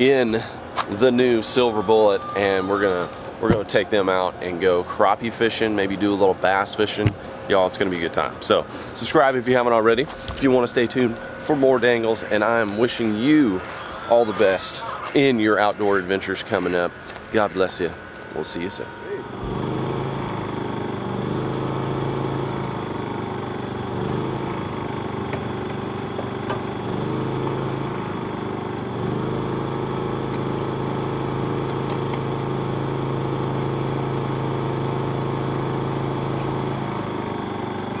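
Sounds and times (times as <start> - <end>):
engine humming steadily: 0.0 - 38.0.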